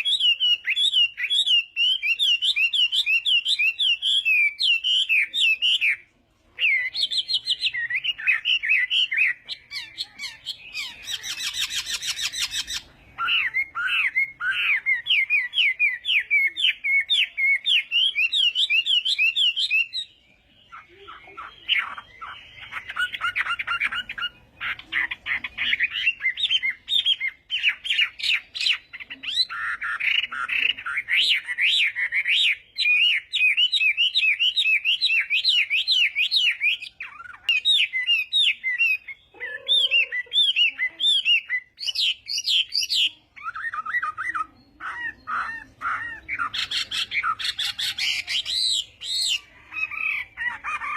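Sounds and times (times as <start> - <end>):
bird singing whistled phrases: 0.0 - 6.0, 6.6 - 50.9.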